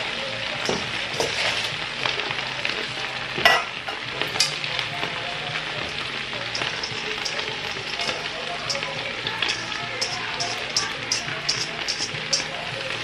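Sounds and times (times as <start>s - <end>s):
cabbage sizzling in grease: 0.0s - 13.0s.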